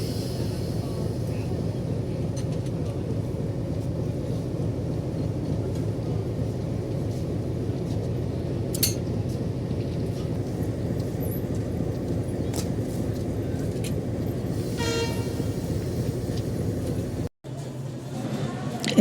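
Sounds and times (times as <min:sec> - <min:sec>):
railway station rumble: 0:00.0 - 0:19.0.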